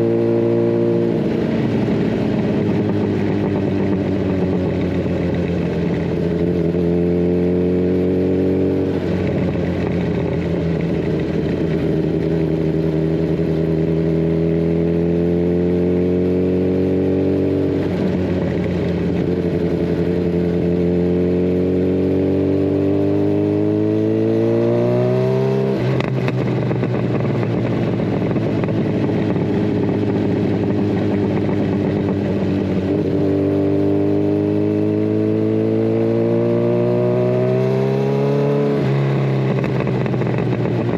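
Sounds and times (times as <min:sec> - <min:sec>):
motorcycle engine revving through gears: 0:00.0 - 0:40.9.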